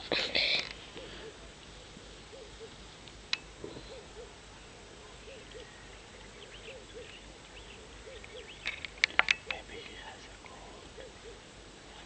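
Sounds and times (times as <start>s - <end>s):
bird cooing: 0.1s - 2.8s, 3.6s - 8.8s, 9.4s - 11.6s.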